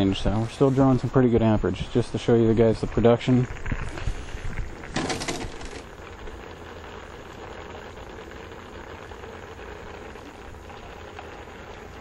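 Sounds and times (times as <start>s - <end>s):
electrolyzer cell fizzing: 0.0s - 12.0s.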